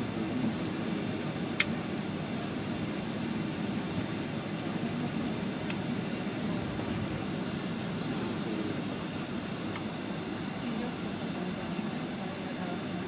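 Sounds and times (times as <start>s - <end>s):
aircraft engines idling: 0.0s - 13.0s.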